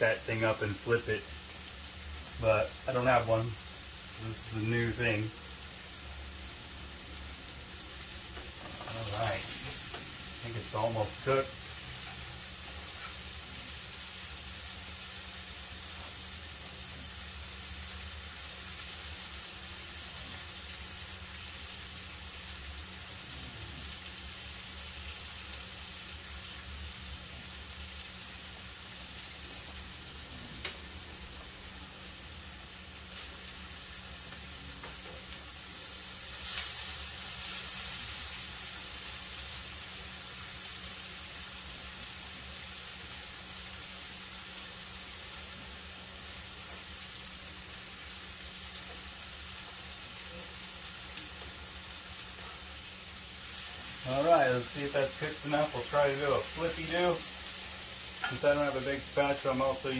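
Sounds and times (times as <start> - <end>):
meat patty sizzling in a pan: 0.0 - 59.9.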